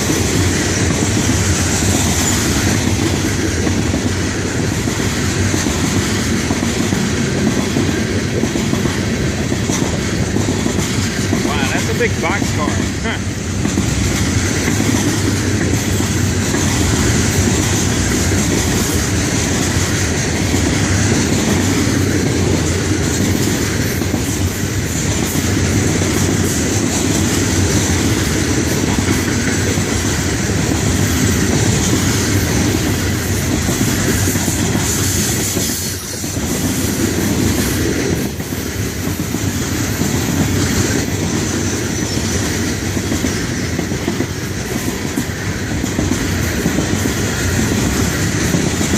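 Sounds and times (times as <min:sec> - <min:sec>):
freight train rolling past: 0:00.0 - 0:48.9
steel wheels on rails: 0:00.0 - 0:48.9.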